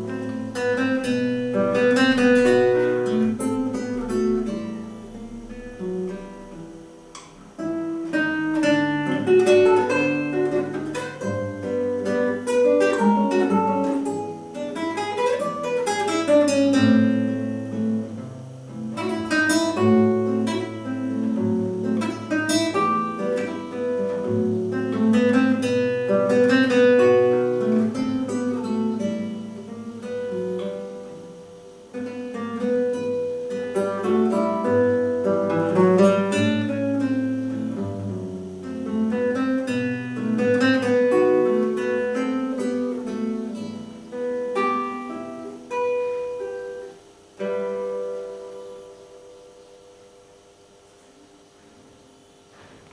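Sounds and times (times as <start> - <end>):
classical guitar melody: 0.0 - 52.9.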